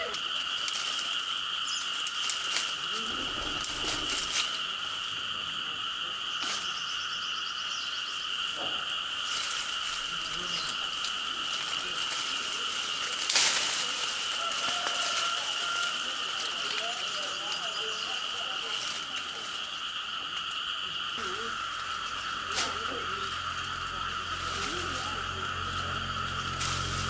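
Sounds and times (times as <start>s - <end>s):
chorus of calling animals: 0.0s - 27.0s.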